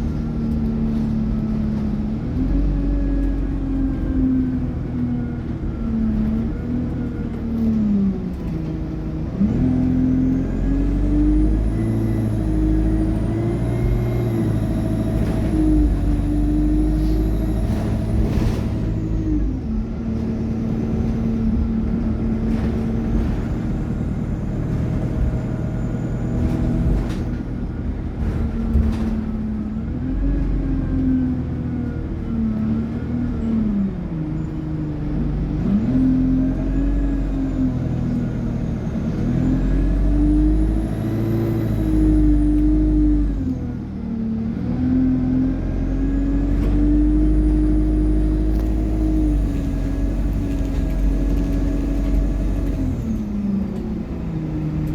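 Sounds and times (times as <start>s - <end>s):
bus gearbox and engine whining: 0.0s - 54.9s.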